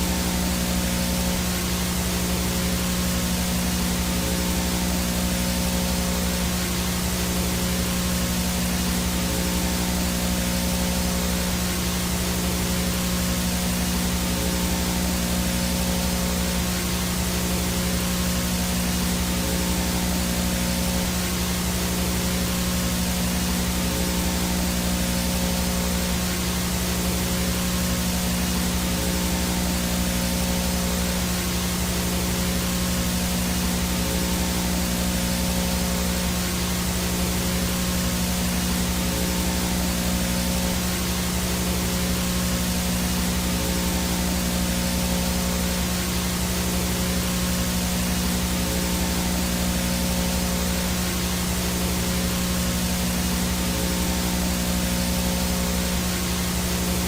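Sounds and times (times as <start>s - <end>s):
low buzzing hum: 0.0s - 57.0s
static hiss: 0.0s - 57.0s
thin high whine: 0.0s - 57.0s.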